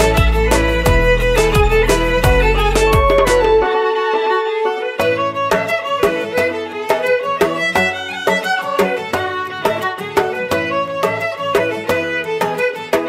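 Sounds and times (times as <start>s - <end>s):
violin music over steady beat: 0.0s - 13.0s.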